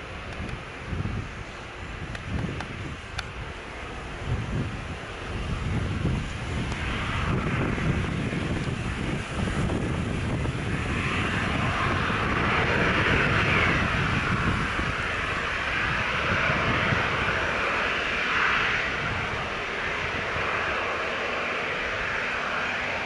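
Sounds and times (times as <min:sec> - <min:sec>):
jet engines whining and rumbling: 0:00.0 - 0:23.0.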